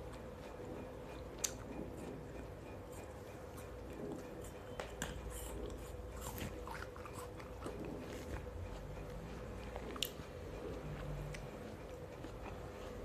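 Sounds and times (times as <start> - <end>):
person chewing fruit: 0.0 - 13.0.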